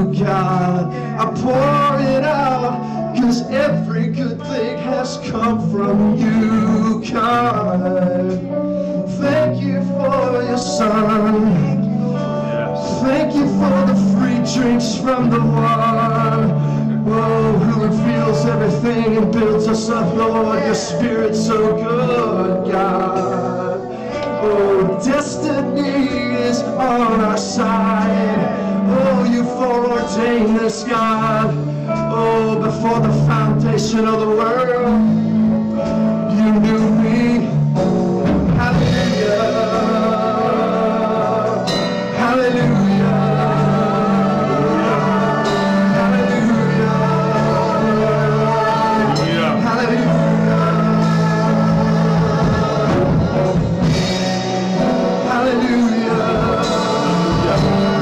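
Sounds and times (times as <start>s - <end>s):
instrumental backing: 0.0s - 58.0s
keyboard-led band: 0.0s - 58.0s
people singing into microphones: 0.0s - 58.0s.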